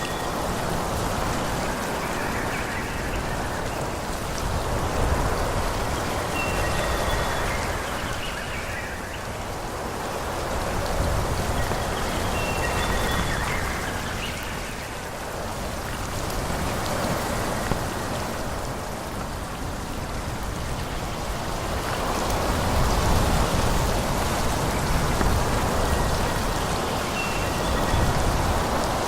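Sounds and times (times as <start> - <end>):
wind rushing through trees: 0.0 - 29.0.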